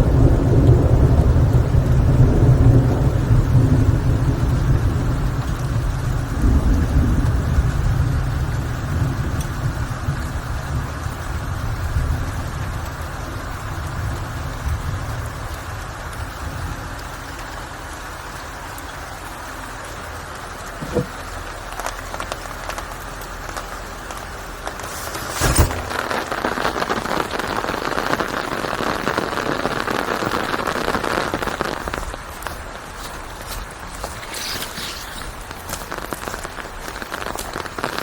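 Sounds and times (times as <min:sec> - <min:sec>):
steady rainfall: 0:00.0 - 0:38.0.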